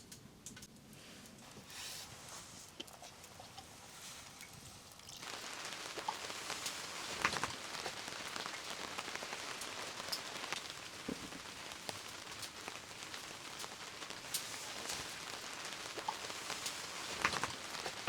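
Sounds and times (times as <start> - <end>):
rain falling on a surface: 0.4 - 18.0.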